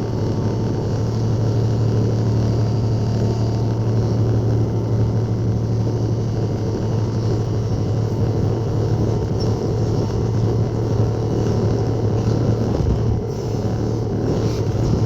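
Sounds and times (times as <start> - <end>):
skid steer engine droning: 0.0 - 15.0.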